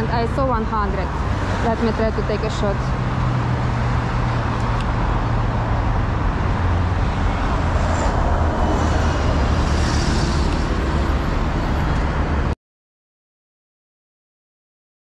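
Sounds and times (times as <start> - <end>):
bus passing close: 0.0 - 12.6
rumble of passing cars: 0.0 - 12.6.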